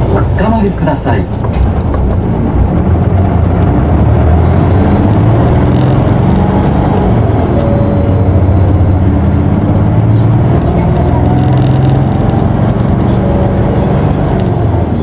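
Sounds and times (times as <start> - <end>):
bus diesel engine accelerating: 0.0 - 15.0.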